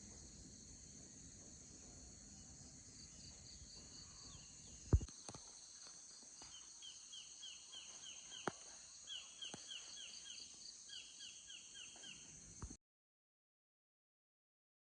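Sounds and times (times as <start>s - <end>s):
insect drone: 0.0s - 12.8s.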